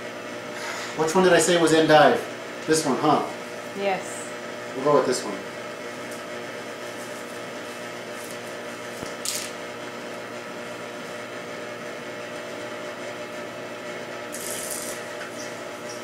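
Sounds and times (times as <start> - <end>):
juicer motor drone: 0.0 - 16.0.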